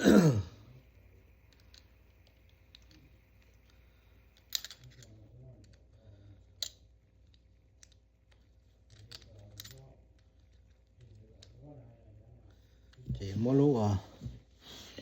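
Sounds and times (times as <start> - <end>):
light clicking and handling noises: 0.7 - 15.0.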